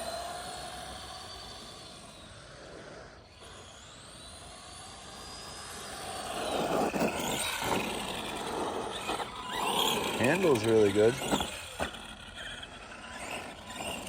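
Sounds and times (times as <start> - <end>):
toy truck motor whining: 0.0 - 14.0.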